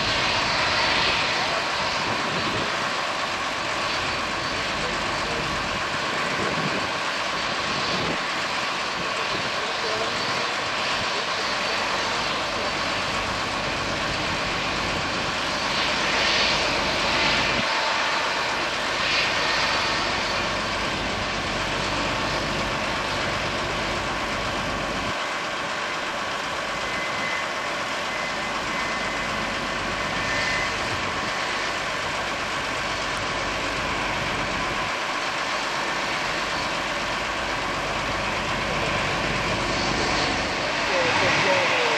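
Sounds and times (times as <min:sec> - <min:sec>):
jet engines rushing with faint whine: 0:00.0 - 0:41.9.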